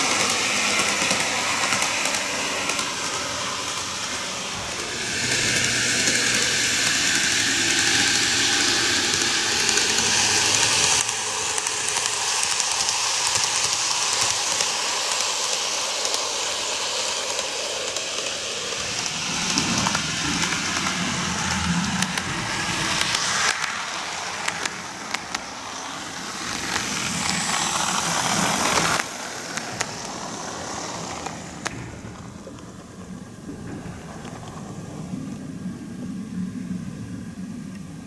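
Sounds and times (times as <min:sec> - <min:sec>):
model train whirring rattle: 0:00.0 - 0:35.5.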